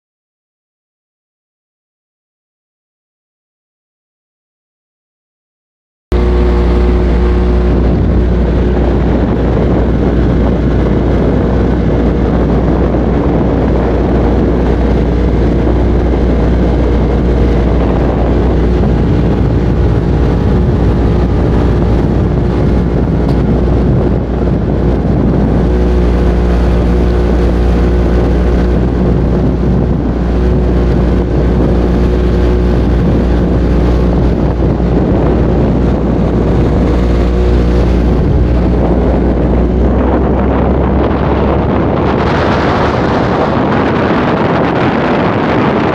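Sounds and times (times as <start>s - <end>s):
speedboat engine droning: 6.1s - 45.9s
wind buffeting microphone: 6.1s - 45.9s.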